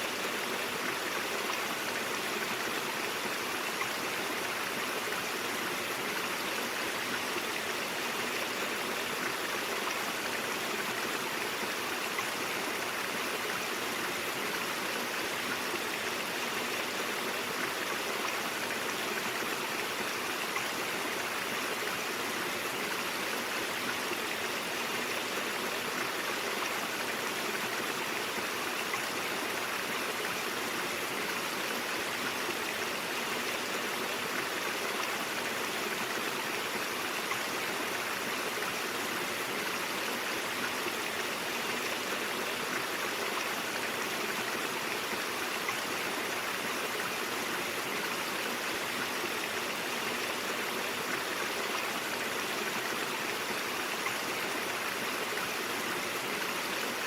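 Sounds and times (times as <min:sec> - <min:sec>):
brook flowing: 0:00.0 - 0:57.0.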